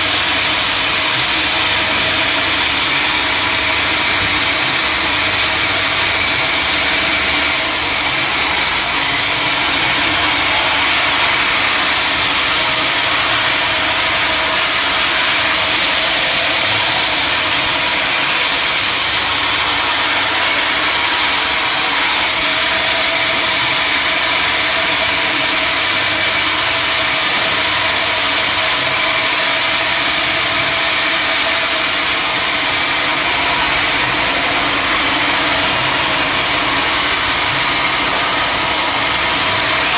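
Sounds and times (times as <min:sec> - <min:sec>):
sawmill machinery sawing wood: 0:00.0 - 0:39.9.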